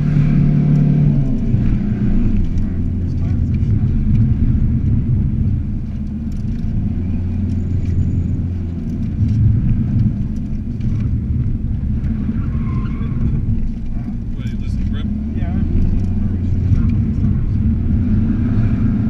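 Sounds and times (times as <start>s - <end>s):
diesel car engine rumble: 0.0s - 19.0s.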